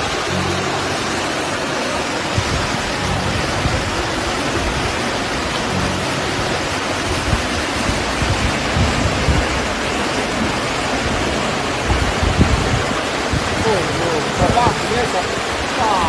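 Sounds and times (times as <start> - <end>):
heavy rain hissing: 0.0 - 16.0
low thunder rumbles: 0.0 - 16.0.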